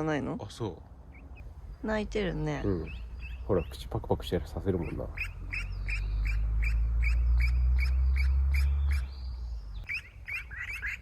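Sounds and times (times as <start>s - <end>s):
young bird peeping: 1.1s - 11.0s.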